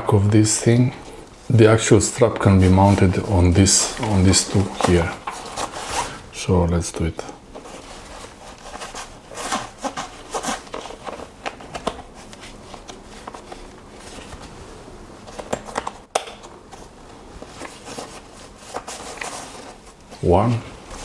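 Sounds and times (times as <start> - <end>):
fabric and webbing rustling: 0.0 - 21.0.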